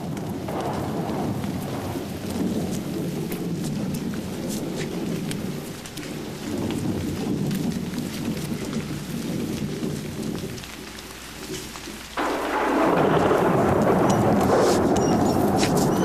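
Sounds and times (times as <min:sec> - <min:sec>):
loud thunder crash: 0:00.0 - 0:10.6, 0:12.2 - 0:16.0
rain: 0:00.0 - 0:16.0
thunder rumbling: 0:00.0 - 0:16.0.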